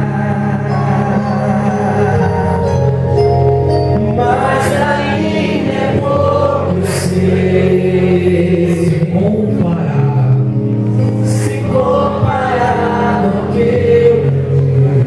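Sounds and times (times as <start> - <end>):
group of voices singing: 0.0 - 9.8, 11.0 - 15.0
long held accompaniment notes: 0.0 - 15.0.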